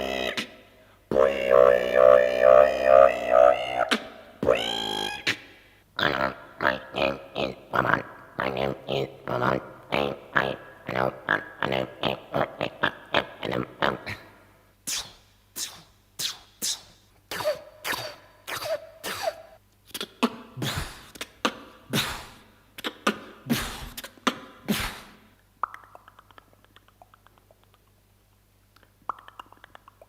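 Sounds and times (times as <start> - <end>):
mouth clicks: 0.0 - 14.2, 14.9 - 30.0
man making mouth sound effects: 0.0 - 30.0.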